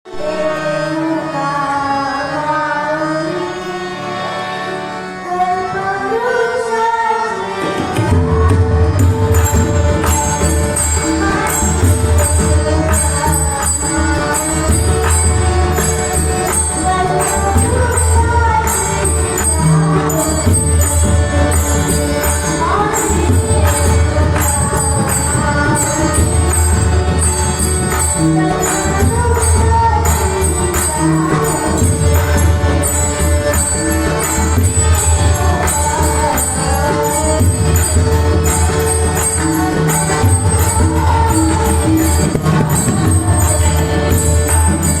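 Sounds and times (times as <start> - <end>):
hand drums: 7.7 - 45.0.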